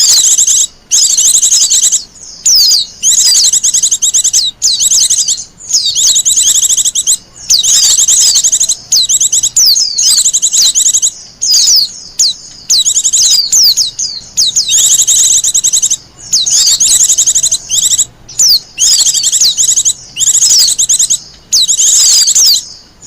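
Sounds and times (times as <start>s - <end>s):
bird twittering song: 0.0s - 23.0s.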